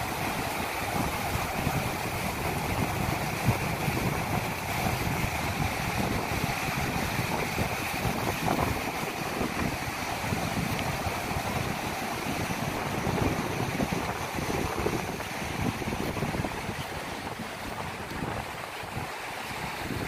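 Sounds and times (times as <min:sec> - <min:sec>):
waves washing up beach: 0:00.0 - 0:20.0
wind buffeting microphone: 0:00.0 - 0:20.0.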